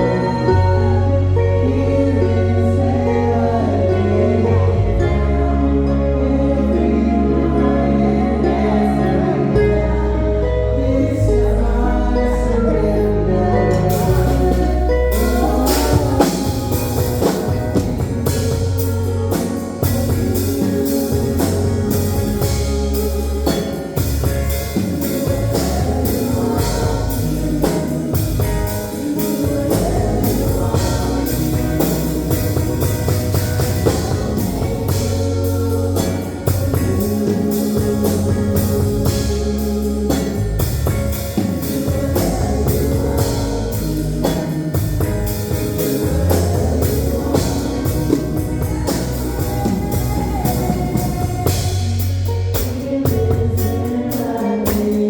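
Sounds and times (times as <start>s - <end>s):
band playing: 0.0s - 55.0s
person singing: 0.0s - 55.0s.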